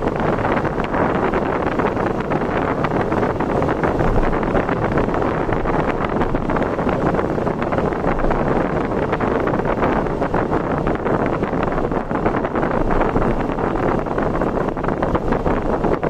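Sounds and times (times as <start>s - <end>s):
vehicle running at speed: 0.0s - 16.0s
wind buffeting microphone: 0.0s - 16.0s.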